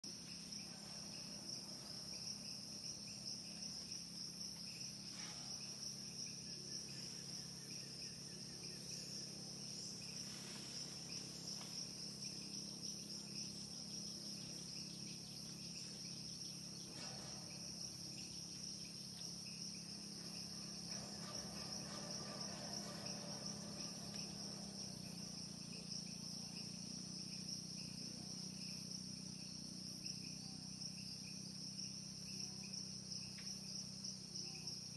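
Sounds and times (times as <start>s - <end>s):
insects chorusing: 0.1s - 34.9s.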